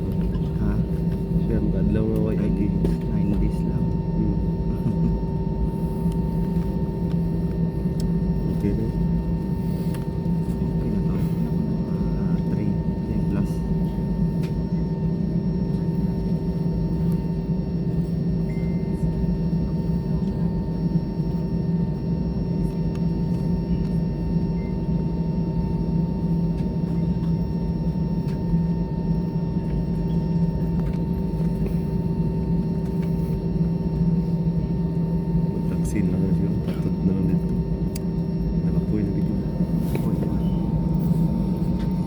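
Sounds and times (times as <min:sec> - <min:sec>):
airliner cabin drone: 0:00.0 - 0:42.0.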